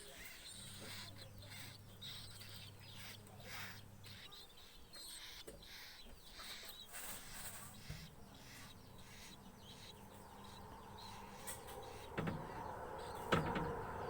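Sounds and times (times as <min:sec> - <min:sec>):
fledgling bird chirping: 0:00.0 - 0:14.0.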